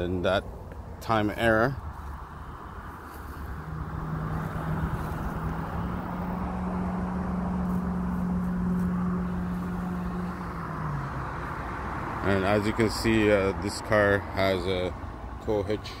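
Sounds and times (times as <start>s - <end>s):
outdoor background noise: 0.0s - 16.0s
vehicle engine humming: 0.0s - 16.0s.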